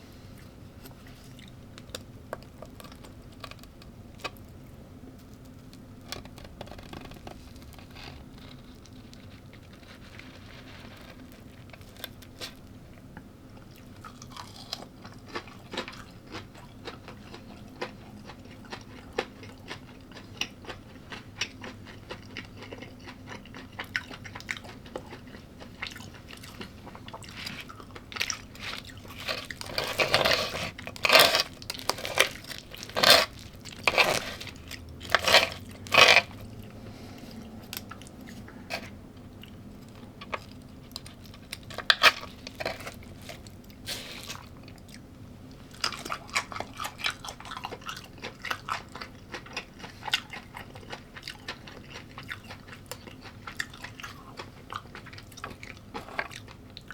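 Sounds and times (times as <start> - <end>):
chewing crunchy food: 0.2 - 56.9.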